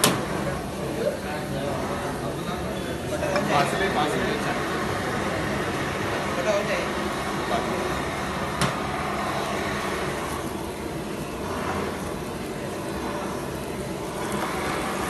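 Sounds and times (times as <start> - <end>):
gas burner rushing: 0.0 - 15.0.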